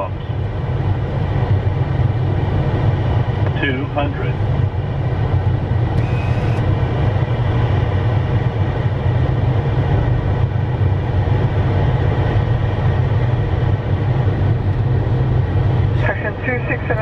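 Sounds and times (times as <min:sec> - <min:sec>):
jet airflow and engine rumble: 0:00.0 - 0:17.0.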